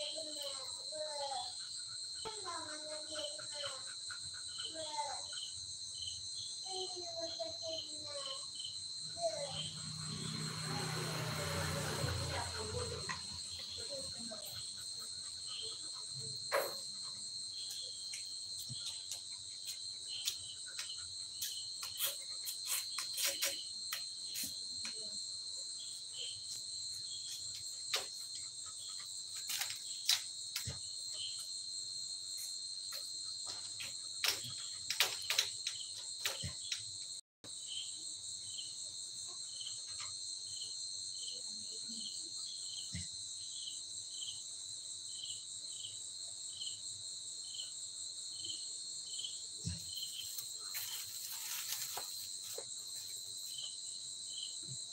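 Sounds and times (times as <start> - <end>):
night insects trilling: 0.0 - 54.9.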